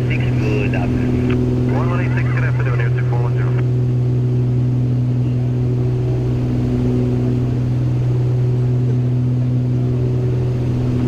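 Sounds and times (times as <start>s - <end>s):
propeller plane engines droning: 0.0s - 11.0s.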